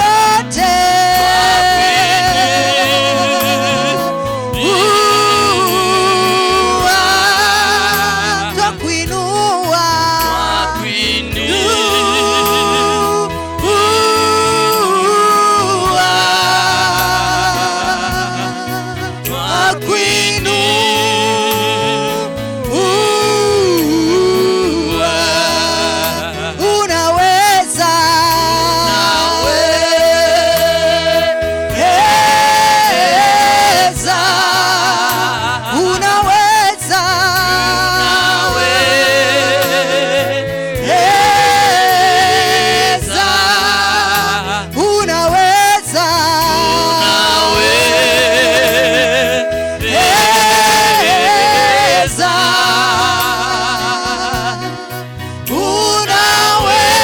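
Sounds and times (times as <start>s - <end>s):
instrumental backing: 0.0s - 57.0s
person singing long held notes: 0.0s - 57.0s.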